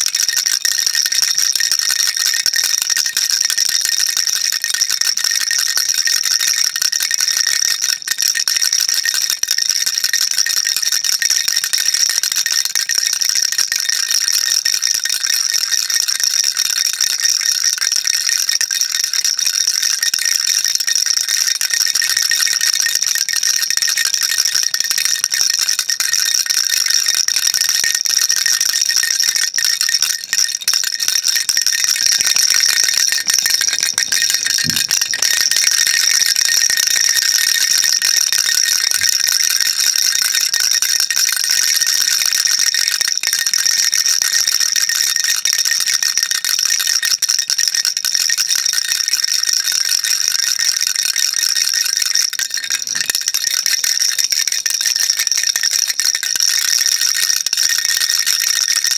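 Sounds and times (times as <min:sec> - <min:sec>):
baby rattle shaken: 0:00.0 - 0:16.4, 0:17.0 - 0:48.1, 0:49.5 - 0:54.1, 0:55.1 - 0:57.1.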